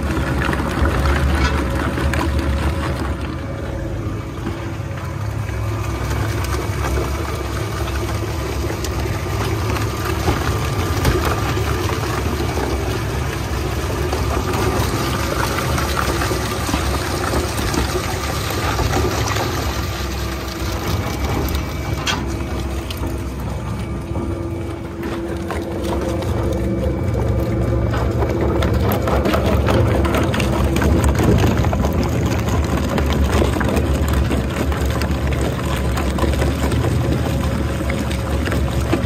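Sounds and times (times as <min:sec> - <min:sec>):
shredder machine drone: 0:00.0 - 0:39.0.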